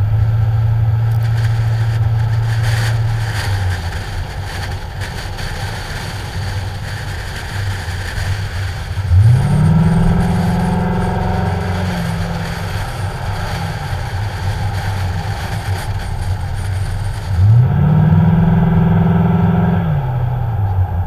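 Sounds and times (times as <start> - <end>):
wind noise on microphone: 1.0 - 21.0
car engine revving: 1.1 - 21.0.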